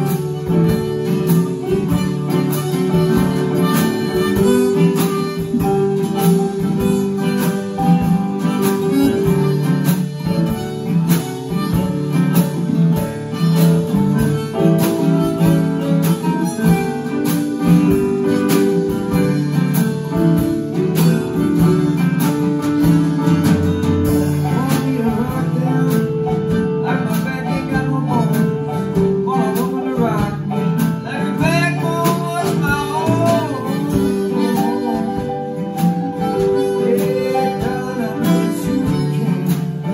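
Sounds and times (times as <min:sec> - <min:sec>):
acoustic guitar strumming: 0:00.0 - 0:39.9
drum kit: 0:00.0 - 0:39.9
harmonica: 0:00.0 - 0:39.9
keyboard: 0:00.0 - 0:39.9.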